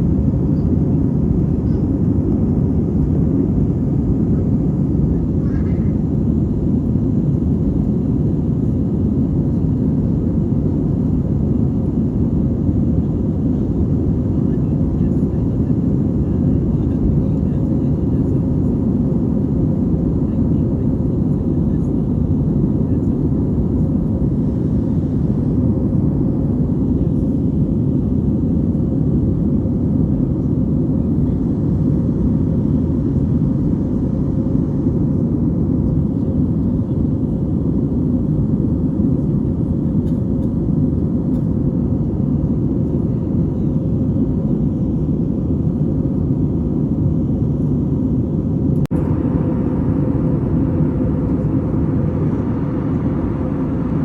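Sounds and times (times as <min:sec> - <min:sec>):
jet engine roar in airliner cabin: 0:00.0 - 0:54.0.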